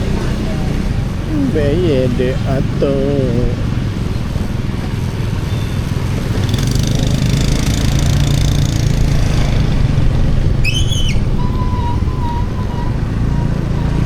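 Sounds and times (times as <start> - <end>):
motorcycle engine rumble: 0.0 - 14.0
road and wind noise: 0.0 - 14.0.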